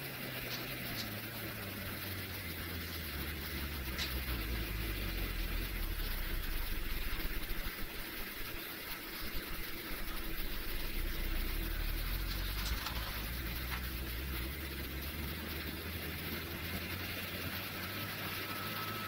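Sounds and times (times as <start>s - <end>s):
faint steady hum: 0.0s - 19.0s
jet engines rumbling: 0.0s - 19.0s.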